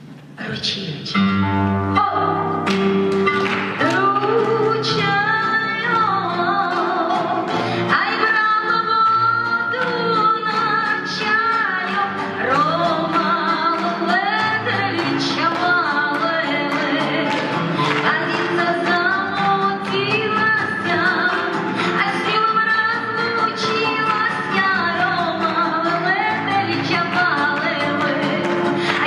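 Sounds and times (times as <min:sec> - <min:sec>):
guitar accompaniment: 0:00.0 - 0:29.0
woman singing with vibrato: 0:01.9 - 0:02.7, 0:03.8 - 0:29.0.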